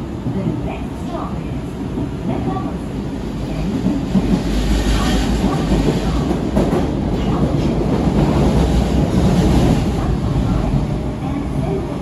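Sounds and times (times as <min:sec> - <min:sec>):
subway car rumbling through tunnel: 0:00.0 - 0:12.0.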